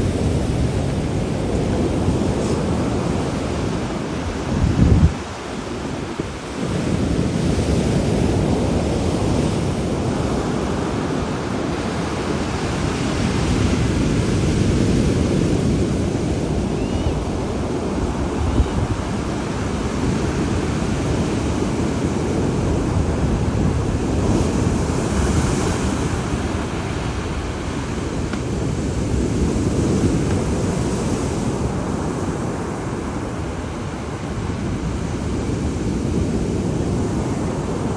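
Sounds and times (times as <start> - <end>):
storm waves breaking: 0.0 - 37.9
wind buffeting microphone: 0.0 - 37.9.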